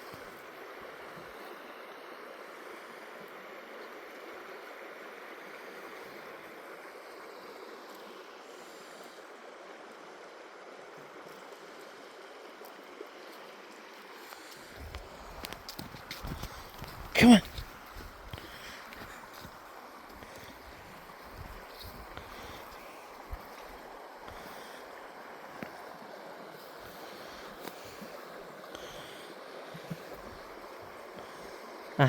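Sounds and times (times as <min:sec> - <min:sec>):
stream water flowing: 0:00.0 - 0:32.0.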